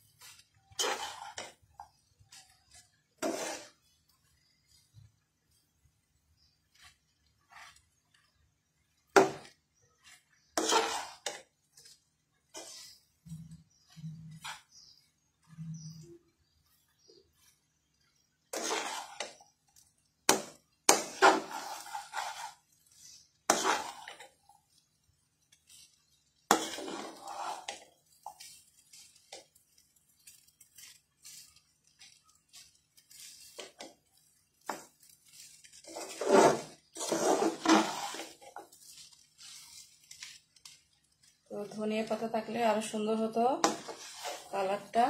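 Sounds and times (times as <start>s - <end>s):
spatula scraping metal pan: 0.0s - 5.2s, 6.4s - 45.0s.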